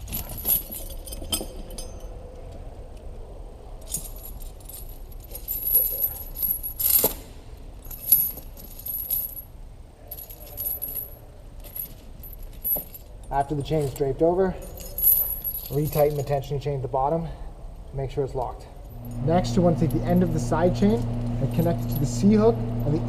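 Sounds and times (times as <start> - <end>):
loud chain clank: 0.0 - 2.3, 3.8 - 16.5, 18.8 - 23.0
tire chain links jingling: 0.0 - 2.8, 3.6 - 23.0.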